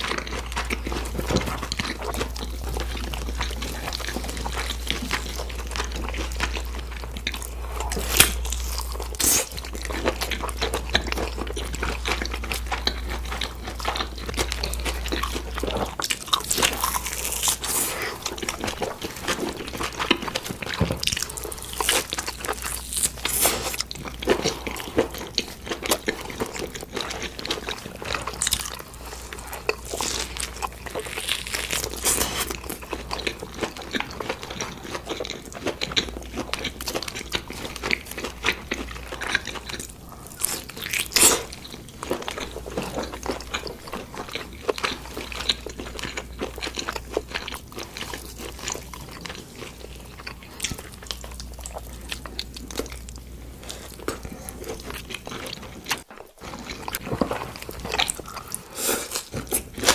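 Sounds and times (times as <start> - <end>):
crunchy food chewing: 0.0 - 59.9.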